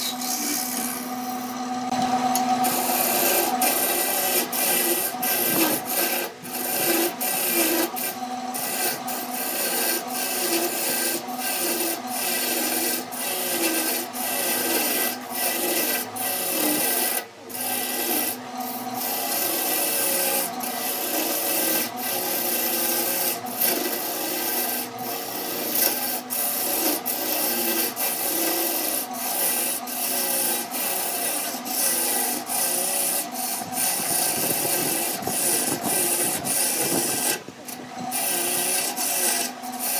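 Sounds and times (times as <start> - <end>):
turning tool rasping wood: 0.0 - 39.9
wood lathe motor hum: 0.0 - 39.9.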